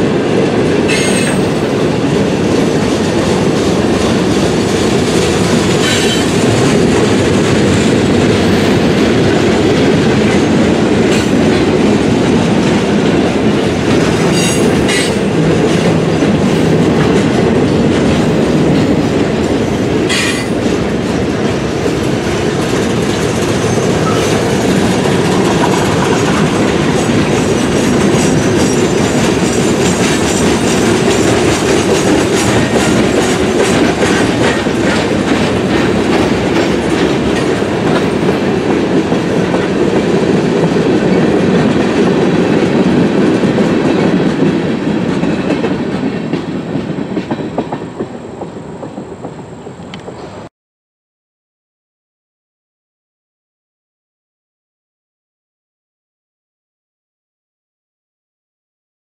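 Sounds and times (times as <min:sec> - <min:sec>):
clickety-clack over rail joints: 0:00.0 - 0:50.5
train wheels rumbling on rail: 0:00.0 - 0:50.5.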